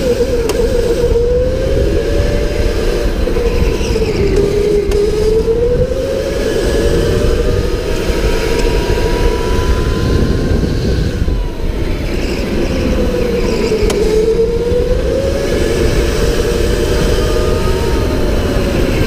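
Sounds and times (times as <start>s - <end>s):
electric go-kart motor whining: 0.0s - 19.0s
low rumble: 0.0s - 19.0s.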